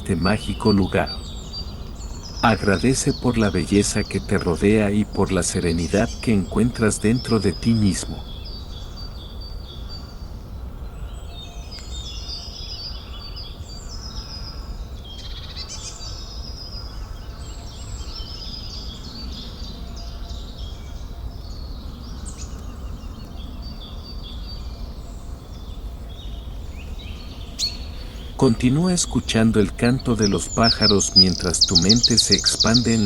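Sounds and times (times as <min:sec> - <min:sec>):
birds singing and chirping: 0:00.0 - 0:33.0
low background noise: 0:00.0 - 0:33.0.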